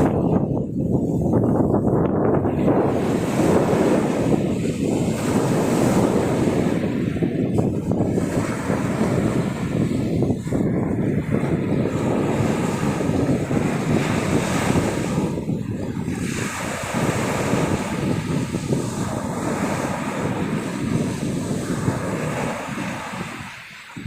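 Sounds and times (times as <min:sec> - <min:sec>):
sea surf washing ashore: 0:00.0 - 0:24.0
wind buffeting microphone: 0:00.0 - 0:24.0.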